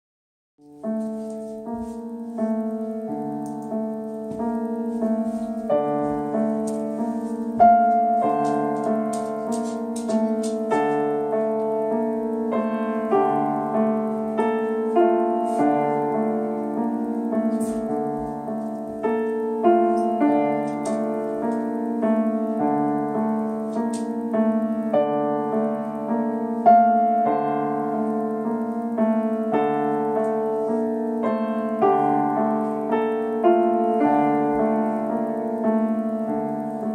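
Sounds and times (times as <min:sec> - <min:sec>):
solo piano piece: 0:00.6 - 0:36.9.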